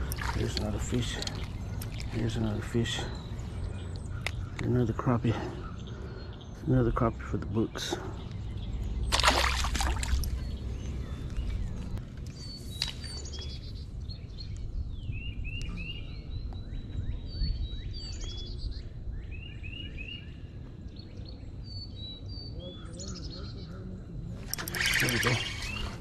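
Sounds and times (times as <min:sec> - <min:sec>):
outdoor background noise: 0:00.0 - 0:26.0
songbirds chirping: 0:00.0 - 0:26.0.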